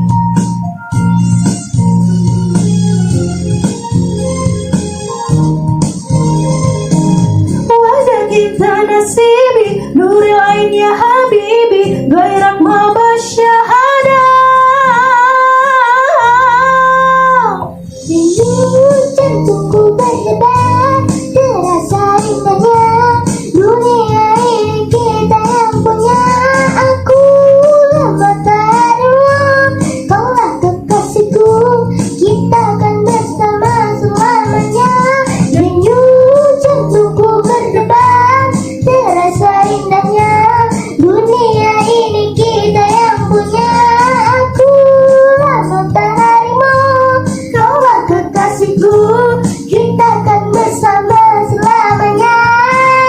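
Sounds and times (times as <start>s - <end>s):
backing track with plucked strings: 0.0s - 53.0s
girl singing: 7.6s - 53.0s.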